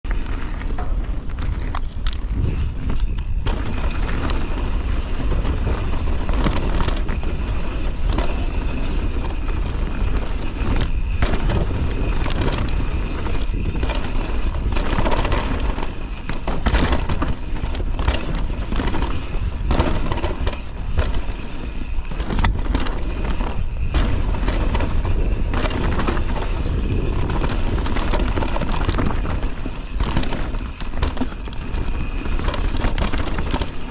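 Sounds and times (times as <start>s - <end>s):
tyres on dirt and gravel: 0.0s - 33.9s
bike knocks and clatter: 0.1s - 33.9s
wind buffeting microphone: 0.1s - 33.9s.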